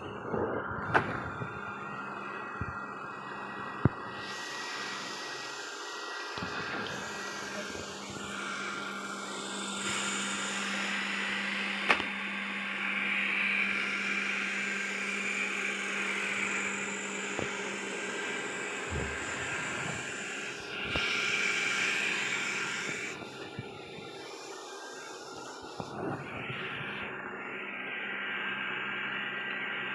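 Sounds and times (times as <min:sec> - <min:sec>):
robot vacuum motor hum: 0:00.0 - 0:29.9.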